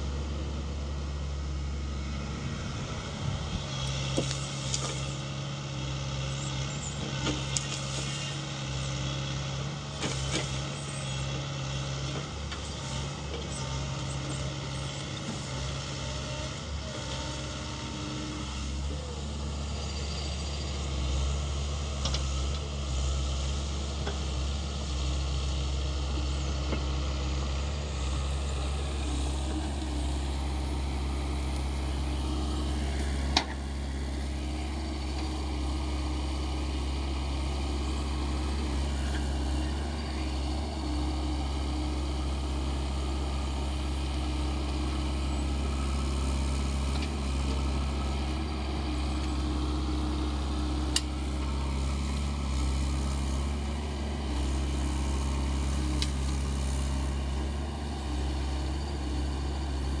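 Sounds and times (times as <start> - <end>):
excavator diesel engine droning: 0.0 - 60.0.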